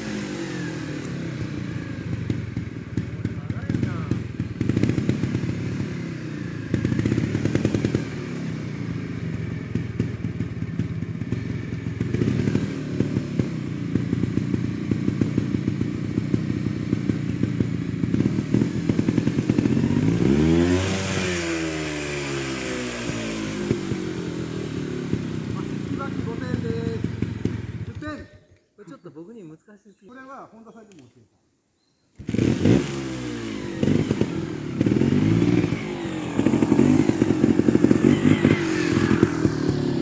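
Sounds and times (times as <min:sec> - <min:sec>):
motorcycle engine revving: 0:00.0 - 0:28.2, 0:32.1 - 0:40.0.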